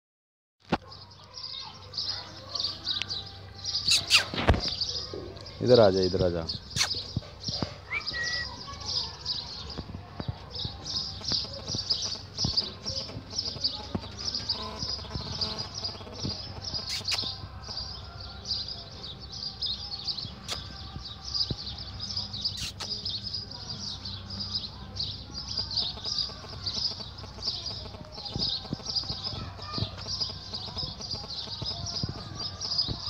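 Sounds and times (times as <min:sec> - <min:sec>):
small birds chirping: 0:00.6 - 0:33.0.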